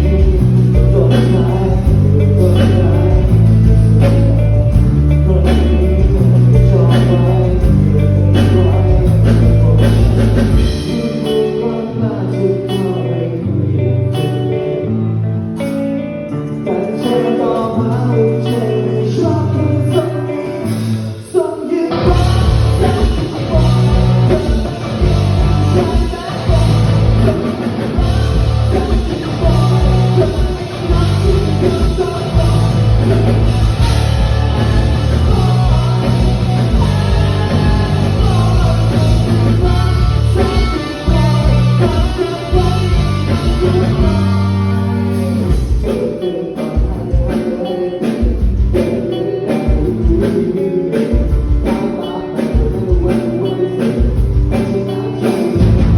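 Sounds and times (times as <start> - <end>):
person singing: 0.0 - 55.9
pop-rock band playing: 0.0 - 55.9.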